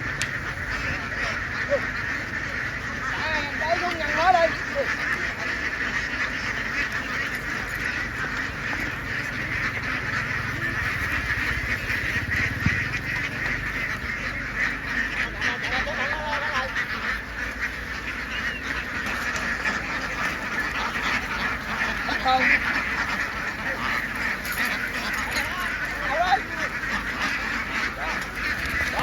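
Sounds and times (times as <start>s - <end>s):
flock of ducks quacking: 0.0s - 29.0s.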